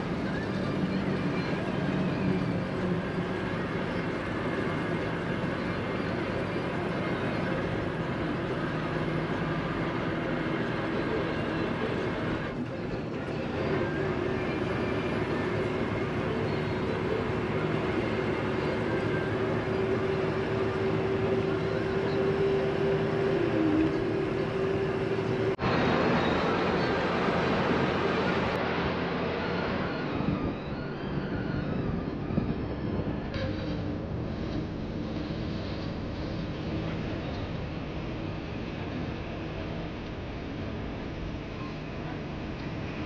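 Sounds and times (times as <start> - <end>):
bus engine and road rumble: 0.0 - 43.0
held whine: 0.0 - 43.0.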